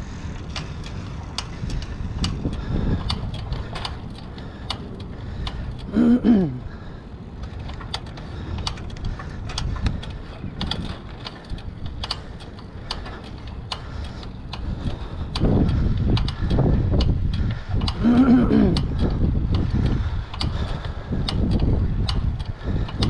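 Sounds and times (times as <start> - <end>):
bike rack rattling and clicking: 0.0 - 23.0
wind rushing on camera: 0.0 - 23.0.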